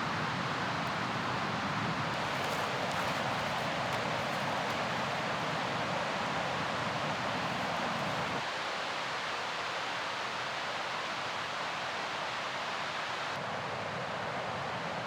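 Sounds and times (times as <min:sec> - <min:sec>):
mountain river rushing: 0:00.0 - 0:13.0.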